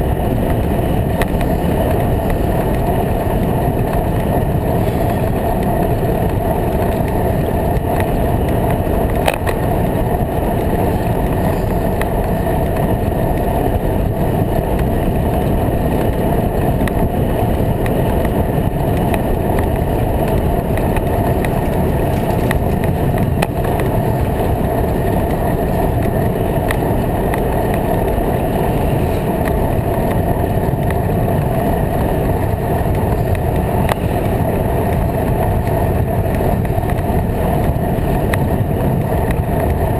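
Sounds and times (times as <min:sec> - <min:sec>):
bicycle tyres rolling: 0:00.0 - 0:39.9
wind on microphone: 0:00.0 - 0:39.9.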